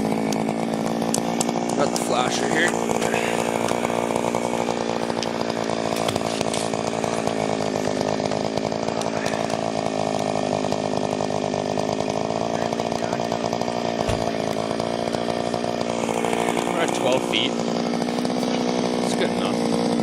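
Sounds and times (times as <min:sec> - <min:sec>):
ice auger engine running: 0:00.0 - 0:20.0.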